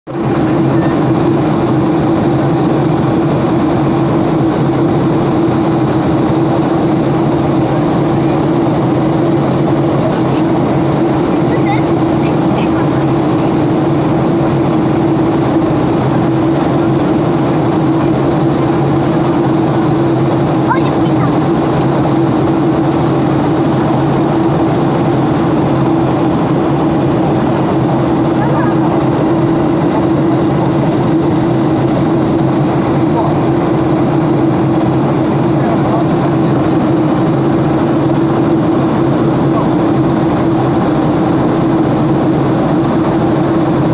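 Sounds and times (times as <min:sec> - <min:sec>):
airplane engine drone: 0:00.1 - 0:43.9.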